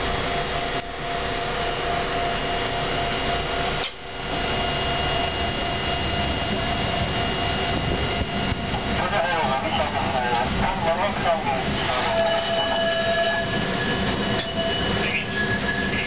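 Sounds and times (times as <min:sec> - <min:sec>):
tram running hum: 0:00.0 - 0:16.0.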